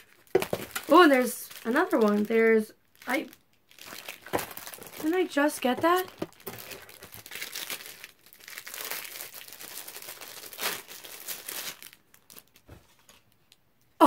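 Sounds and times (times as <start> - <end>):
packaging crinkling and tearing: 0.0 - 13.6.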